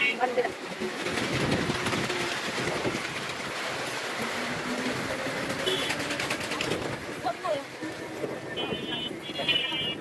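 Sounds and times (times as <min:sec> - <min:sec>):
rickshaw wheels and frame rattling: 0:00.0 - 0:10.0.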